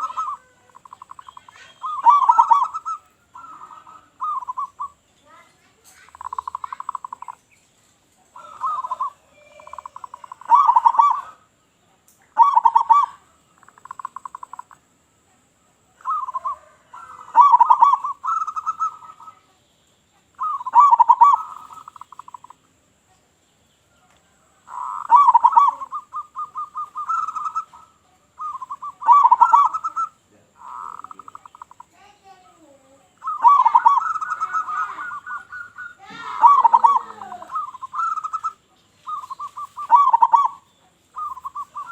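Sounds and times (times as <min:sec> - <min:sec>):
dove cooing: 0:00.0 - 0:07.4, 0:08.3 - 0:11.5, 0:12.3 - 0:14.8, 0:15.8 - 0:19.5, 0:20.3 - 0:22.6, 0:24.3 - 0:41.9.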